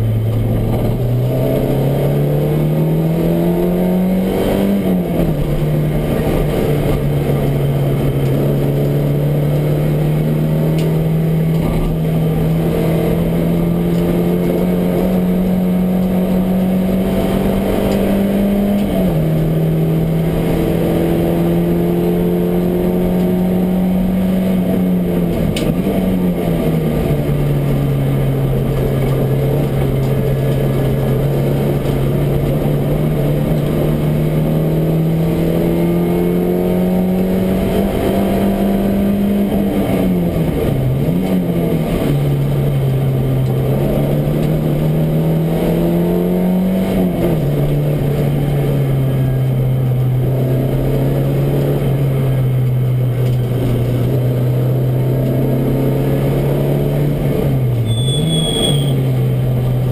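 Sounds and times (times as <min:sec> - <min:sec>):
race car engine running hard: 0:00.0 - 0:58.1.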